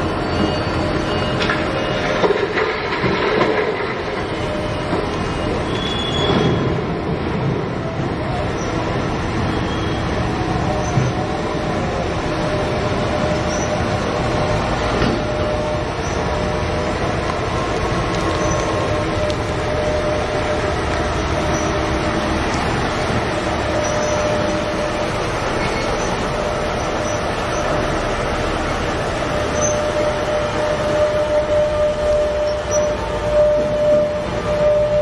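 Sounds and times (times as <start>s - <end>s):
dump truck engine rumbling: 0.0s - 35.0s.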